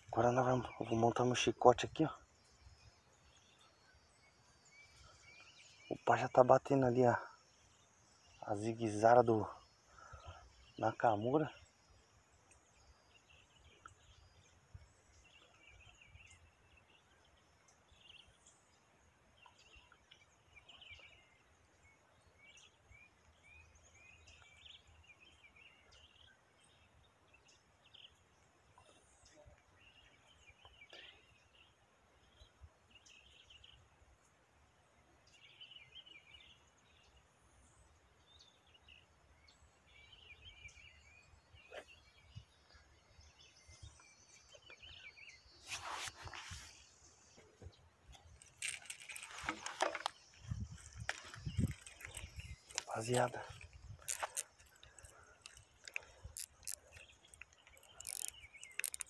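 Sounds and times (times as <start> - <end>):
faint bird chirps: 0.0 - 34.4, 35.2 - 59.0.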